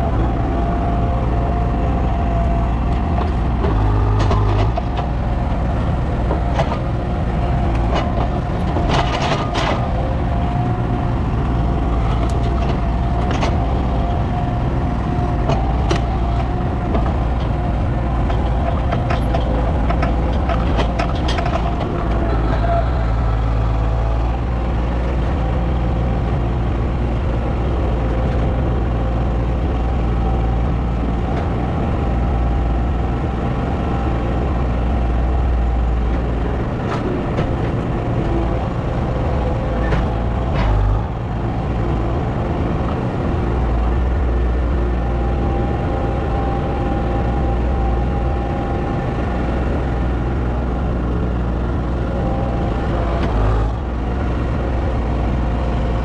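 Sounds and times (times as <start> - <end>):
heavy vehicle engine rumbling: 0.0 - 56.0.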